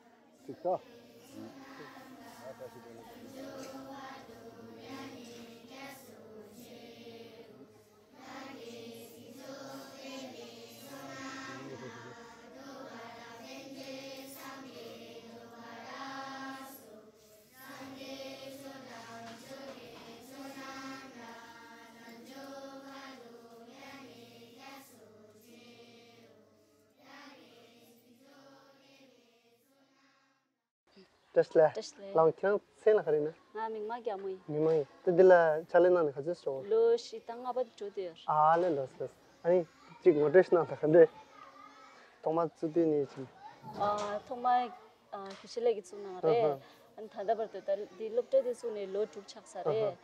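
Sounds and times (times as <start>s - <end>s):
voices chanting: 0.0s - 30.1s, 32.5s - 50.0s.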